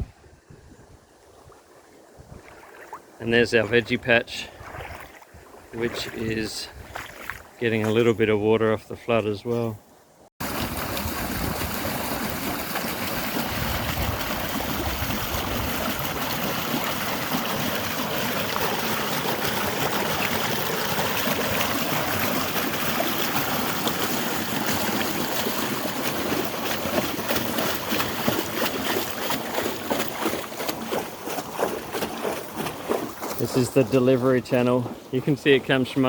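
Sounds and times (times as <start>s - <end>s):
water rushing along a channel: 1.8s - 7.9s, 10.4s - 36.0s.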